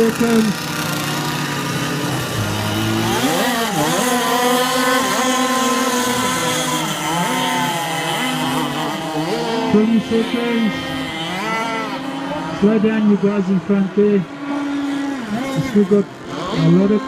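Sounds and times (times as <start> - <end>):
model boat engines revving: 0.0 - 17.0.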